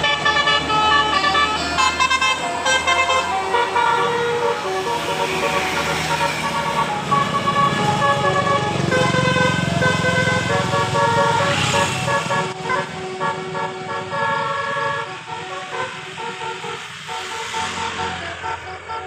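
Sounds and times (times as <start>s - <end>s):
bus engine running: 0.0s - 19.0s
bus horn playing a tune: 0.0s - 19.0s.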